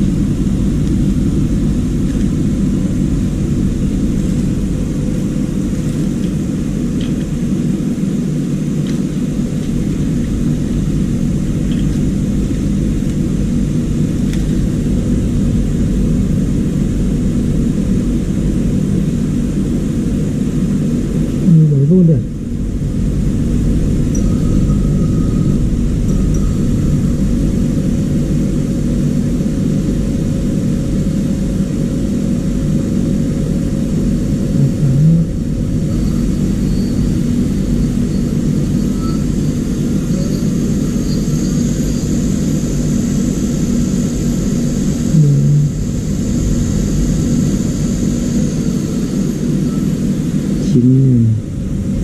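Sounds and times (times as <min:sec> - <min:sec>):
machine roar with low hum: 0:00.0 - 0:52.0.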